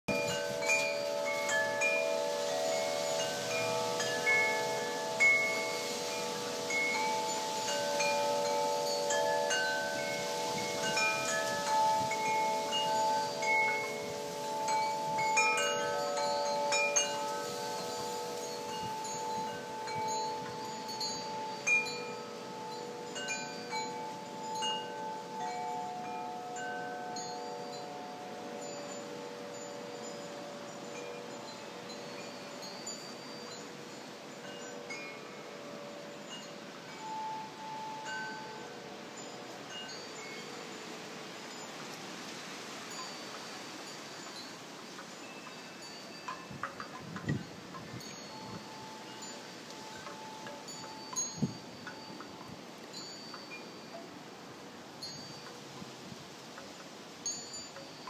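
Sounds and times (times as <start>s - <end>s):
wind chimes ringing: 0.1s - 58.0s.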